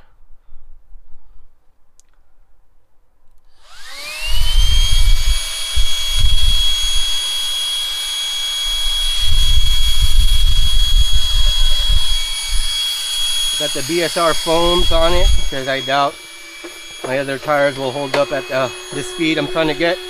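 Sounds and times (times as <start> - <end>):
electric motor whining: 3.5 - 20.0.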